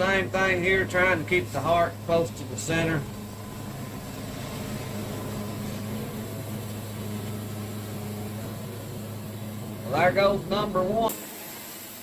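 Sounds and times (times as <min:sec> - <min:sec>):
sawmill engine humming: 0:00.0 - 0:11.9.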